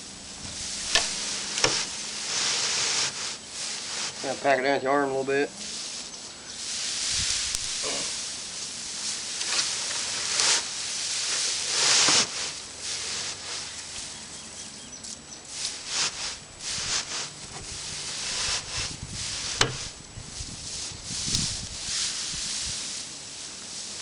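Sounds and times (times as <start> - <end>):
dry hay rustling: 0.0 - 24.0.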